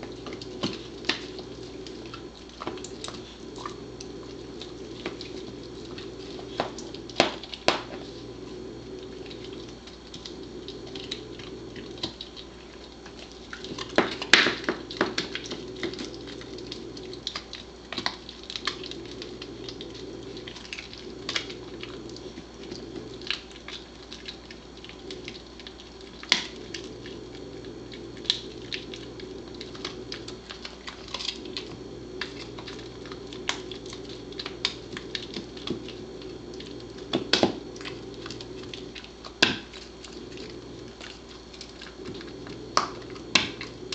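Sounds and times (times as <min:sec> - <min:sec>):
dog teeth crunching on bone: 0:00.0 - 0:43.9
steady background hum: 0:00.0 - 0:43.9.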